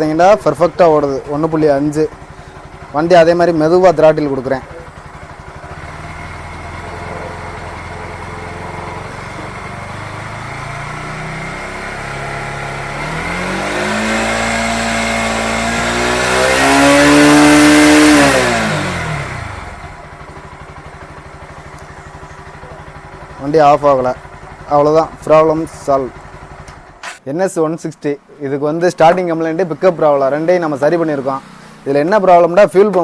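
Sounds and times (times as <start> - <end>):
motorcycle engine idling and revving: 0.0 - 27.2, 28.6 - 33.0.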